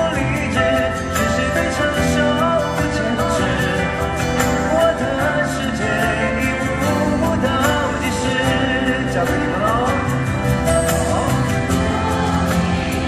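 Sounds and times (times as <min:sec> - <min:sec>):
band playing pop song: 0:00.0 - 0:13.0
person singing: 0:00.0 - 0:13.0.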